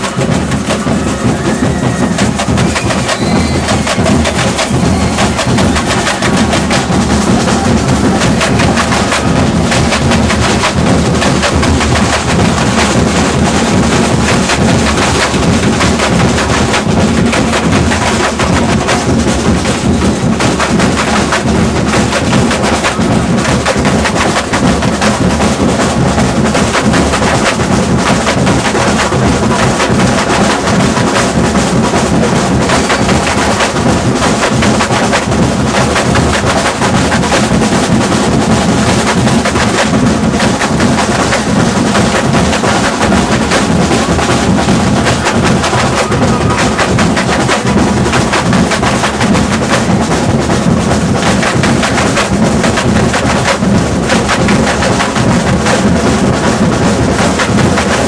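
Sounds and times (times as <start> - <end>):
bass drums beaten: 0.0 - 58.0
samba drum section playing: 0.0 - 58.0.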